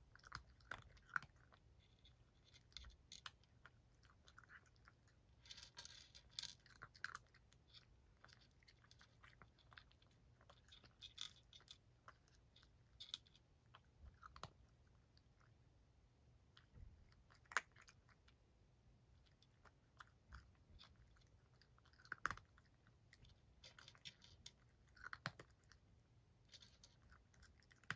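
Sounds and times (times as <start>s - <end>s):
cat crunching dry kibble: 0.0s - 15.6s, 16.5s - 18.4s, 19.1s - 27.9s.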